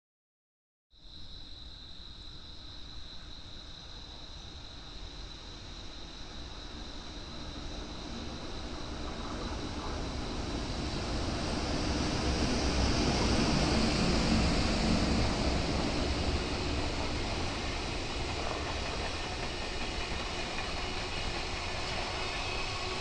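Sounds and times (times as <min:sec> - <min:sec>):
electric locomotive passing: 0:03.9 - 0:23.0.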